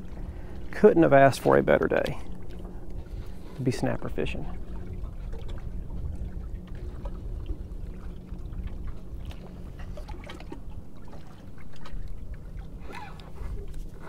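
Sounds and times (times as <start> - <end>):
low steady hum: 0.0 - 14.0
water lapping against boat hull: 0.0 - 14.0.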